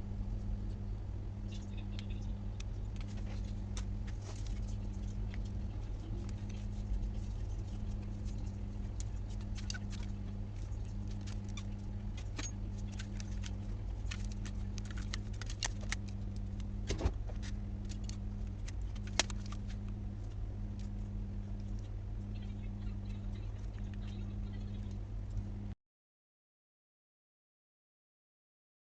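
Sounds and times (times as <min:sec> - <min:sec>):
low electrical hum: 0:00.0 - 0:25.8.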